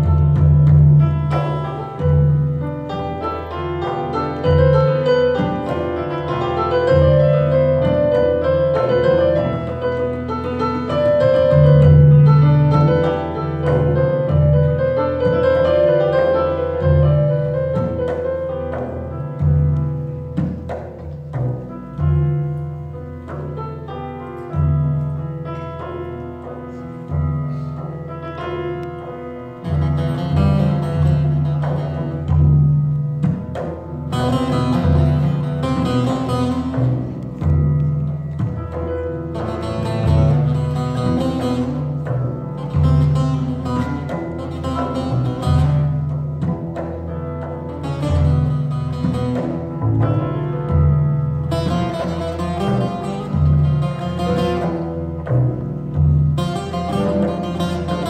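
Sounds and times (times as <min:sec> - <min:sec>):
double bass notes: 0:00.0 - 0:58.0
frame drum: 0:00.0 - 0:58.0
oud: 0:00.0 - 0:58.0
piano slow melody: 0:00.0 - 0:58.0.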